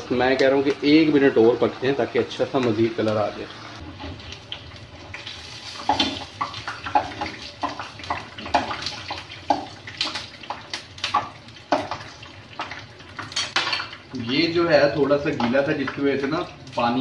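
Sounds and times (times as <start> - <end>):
fries sizzling in hot oil: 0.0 - 17.0
oil popping and crackling: 0.0 - 17.0.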